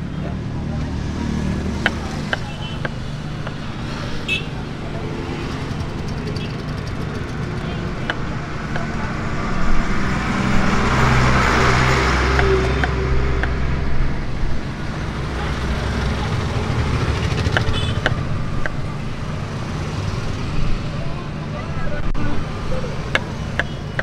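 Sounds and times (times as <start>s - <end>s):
traffic noise: 0.0s - 24.0s
vehicle passing: 0.0s - 24.0s.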